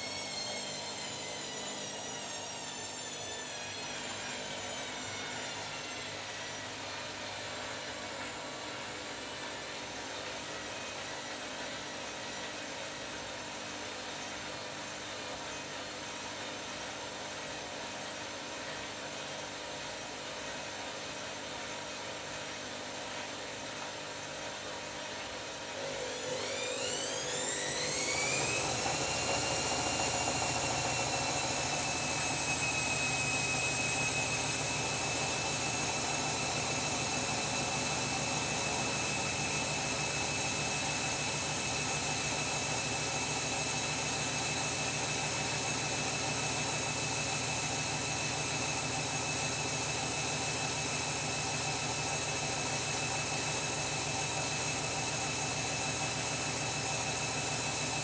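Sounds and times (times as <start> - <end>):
washing machine running: 0.0 - 14.7, 25.4 - 58.0
washing machine spin whine: 0.0 - 58.0.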